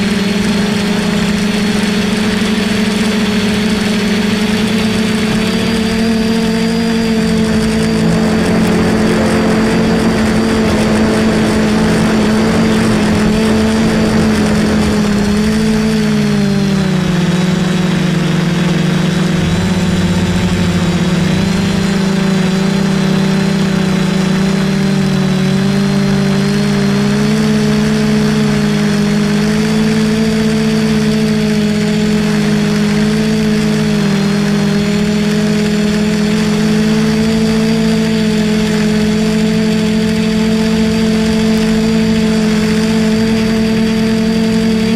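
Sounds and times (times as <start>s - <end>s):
quadcopter propellers buzzing: 0.0s - 44.9s.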